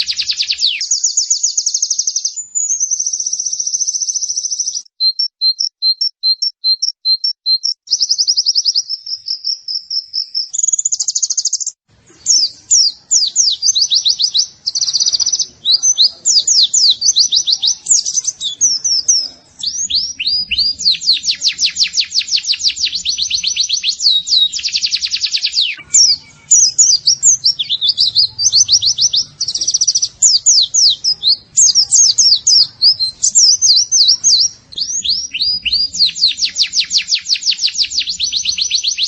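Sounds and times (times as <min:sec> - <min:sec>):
white-eye bird singing trills: 0:00.0 - 0:39.0.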